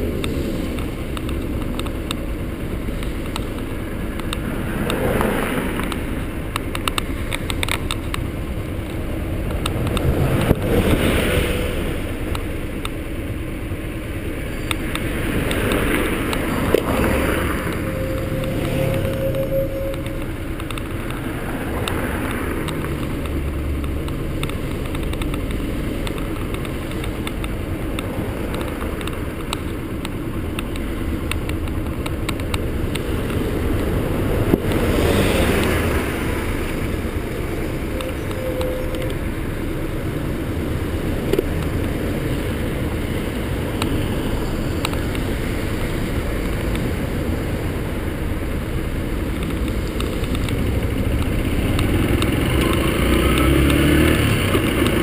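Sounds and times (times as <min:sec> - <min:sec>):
road rumble: 0:00.0 - 0:55.0.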